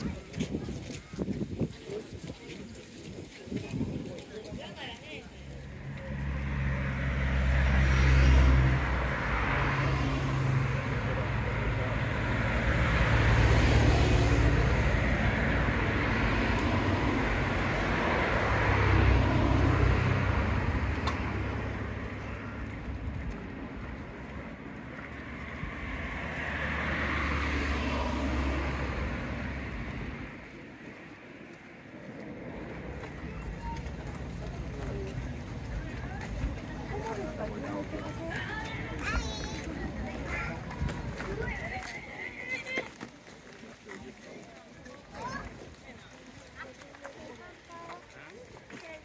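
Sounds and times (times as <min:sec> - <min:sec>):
vehicle engine droning: 0:04.8 - 0:44.3.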